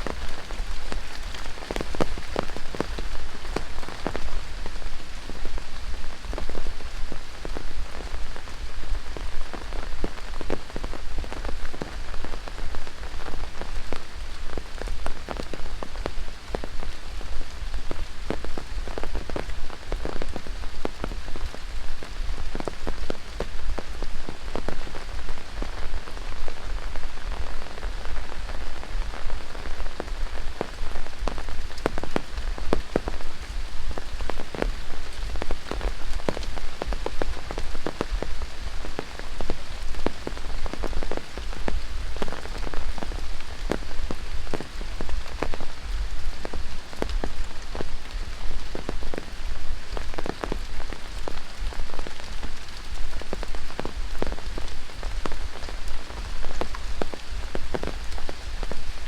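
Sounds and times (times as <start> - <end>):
heavy rain falling: 0.0 - 59.0
loud raindrops striking close by: 0.0 - 59.0.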